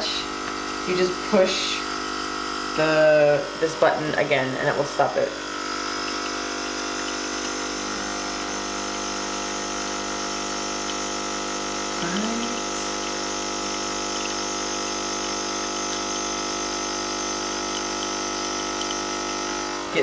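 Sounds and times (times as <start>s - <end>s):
coffee flowing into cups: 0.0s - 20.0s
espresso machine pump humming: 0.0s - 20.0s.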